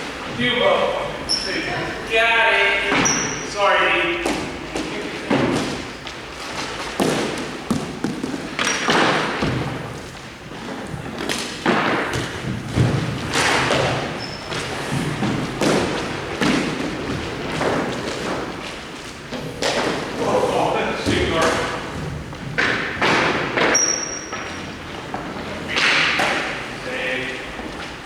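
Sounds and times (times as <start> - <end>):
hockey sticks striking puck: 2.8 - 26.8.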